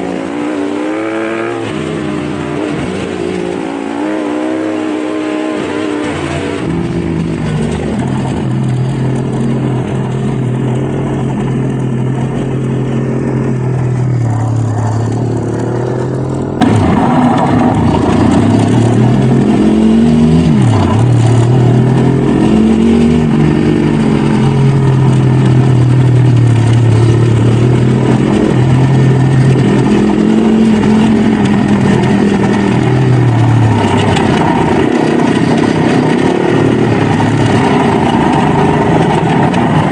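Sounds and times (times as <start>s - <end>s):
dirt bike engine revving: 0.0s - 6.8s, 10.8s - 39.9s.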